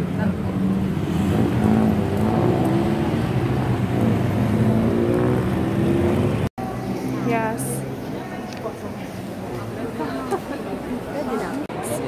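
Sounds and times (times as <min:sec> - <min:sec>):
car engines in traffic: 0:00.0 - 0:11.7.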